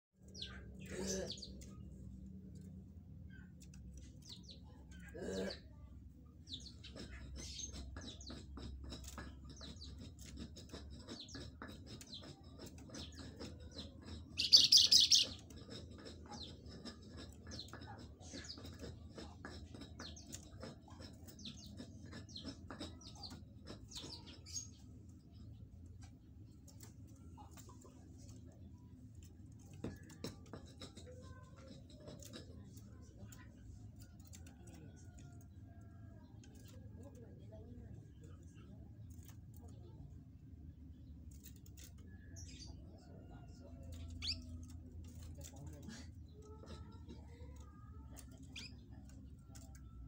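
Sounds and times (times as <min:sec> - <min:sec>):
songbird chirping and twittering: 0:00.2 - 0:05.5, 0:06.2 - 0:50.0.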